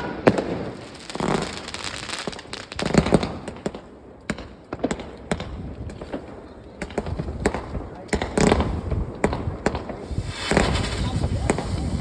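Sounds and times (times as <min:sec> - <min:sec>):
fireworks and firecrackers banging: 0:00.0 - 0:12.0.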